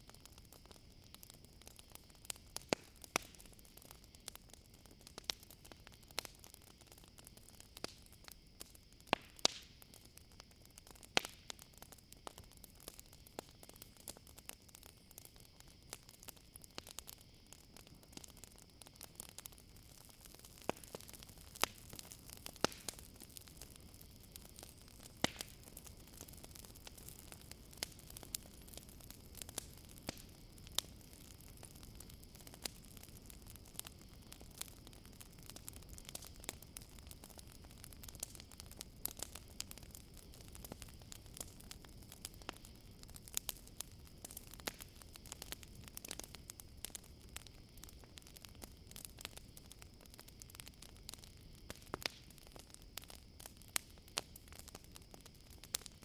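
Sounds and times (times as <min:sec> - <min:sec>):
campfire crackling and popping: 0:00.0 - 0:56.0
crickets chirring: 0:09.7 - 0:56.0.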